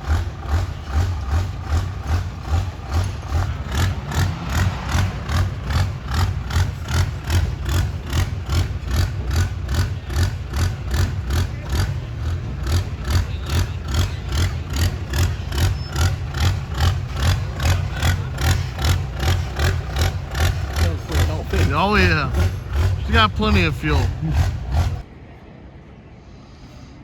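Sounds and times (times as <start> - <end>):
diesel truck engine idling: 0.0 - 25.1.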